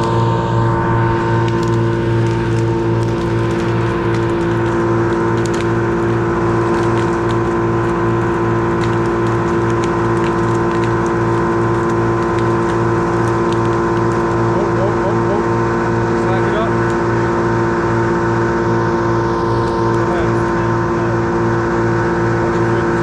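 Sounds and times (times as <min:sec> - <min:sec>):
engine throbbing steadily: 0:00.0 - 0:23.0.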